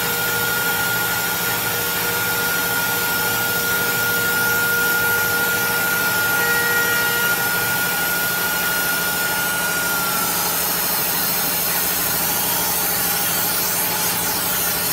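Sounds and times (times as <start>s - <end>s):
router spindle whining: 0.0s - 14.9s.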